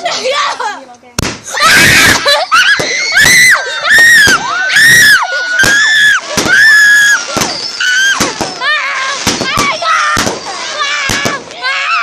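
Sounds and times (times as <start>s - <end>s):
children shrieking: 1.5s - 12.0s.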